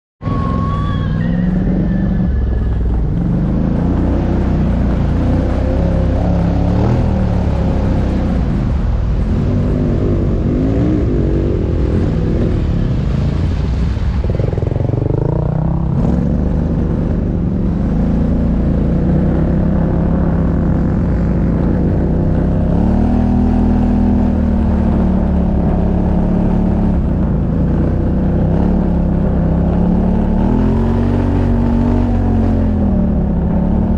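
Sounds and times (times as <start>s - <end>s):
quad engine revving: 0.3s - 13.6s, 14.2s - 33.9s.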